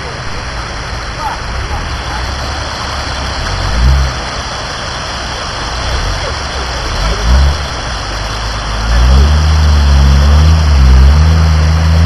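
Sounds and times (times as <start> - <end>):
engine running low: 0.0 - 12.0
water rushing: 0.0 - 12.0.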